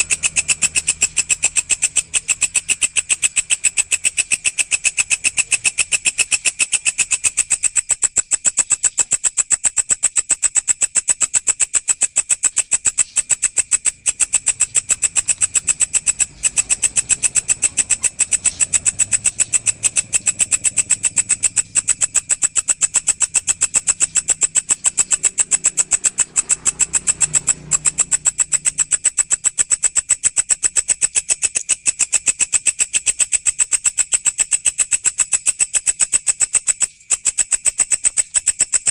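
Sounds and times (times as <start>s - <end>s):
grasshopper chirring: 0.0s - 38.9s.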